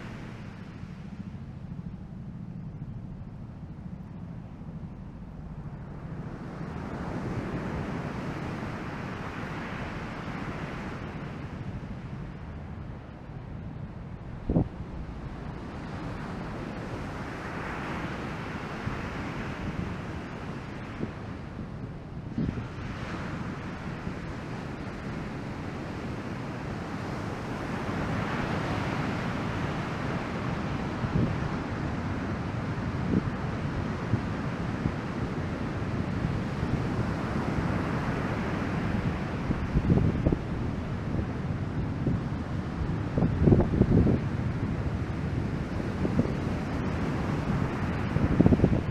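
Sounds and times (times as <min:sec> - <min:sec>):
wind buffeting microphone: 0:00.0 - 0:48.9
ocean surf: 0:06.4 - 0:12.4, 0:14.5 - 0:21.7, 0:22.4 - 0:48.9.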